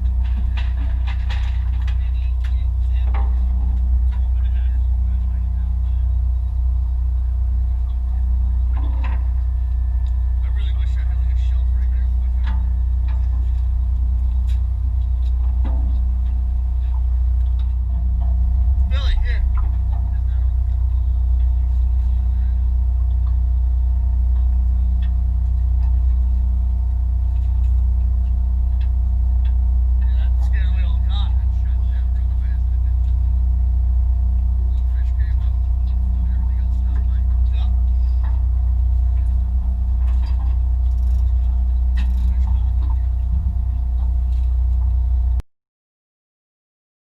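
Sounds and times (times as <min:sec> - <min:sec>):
boat engine droning: 0:00.0 - 0:45.4.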